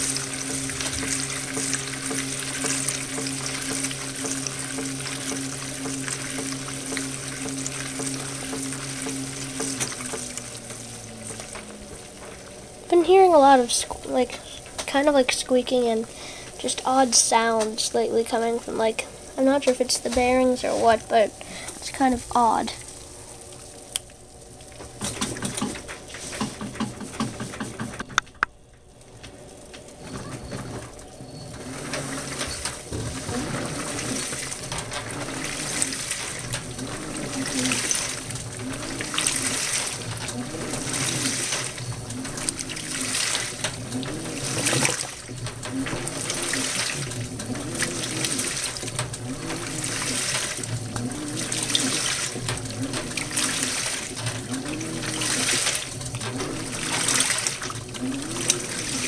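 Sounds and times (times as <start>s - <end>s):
washer motor whine: 0.0s - 59.0s
water sloshing in washer: 0.0s - 59.0s.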